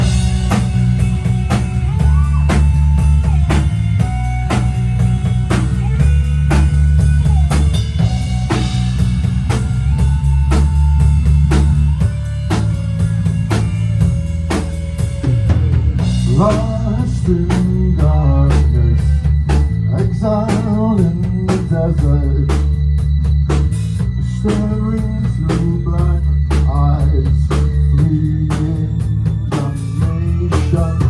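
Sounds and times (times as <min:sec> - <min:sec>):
drum kit beat: 0:00.0 - 0:31.0
heavy bass: 0:00.0 - 0:31.0.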